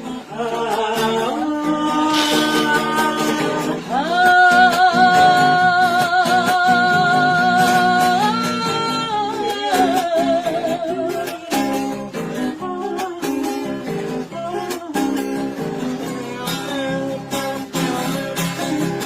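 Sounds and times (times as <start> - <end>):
person singing with vibrato: 0.0 - 19.0
strummed acoustic guitar: 0.0 - 19.0.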